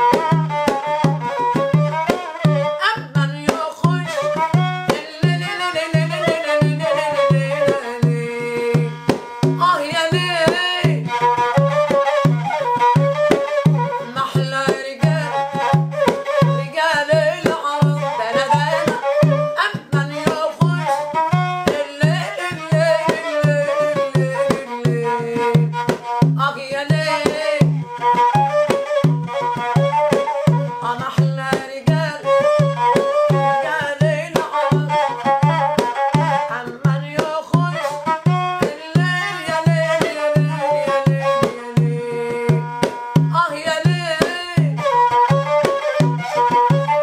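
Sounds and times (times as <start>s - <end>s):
bowed spike fiddle: 0.0s - 9.7s, 10.4s - 43.2s, 44.0s - 47.0s
frame drum beating: 0.0s - 47.0s
woman singing: 0.1s - 47.0s.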